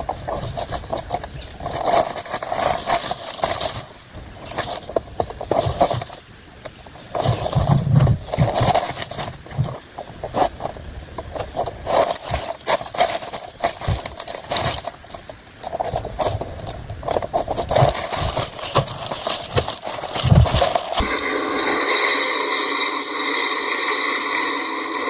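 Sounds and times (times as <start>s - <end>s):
knocking and scraping: 0.0s - 21.1s
rustling: 0.0s - 21.1s.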